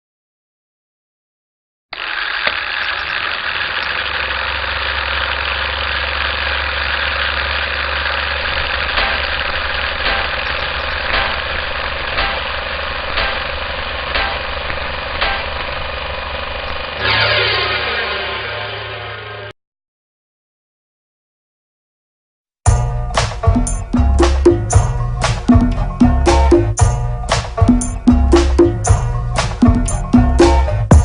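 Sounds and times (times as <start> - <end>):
engine idling: 1.9 - 19.5, 22.7 - 31.0.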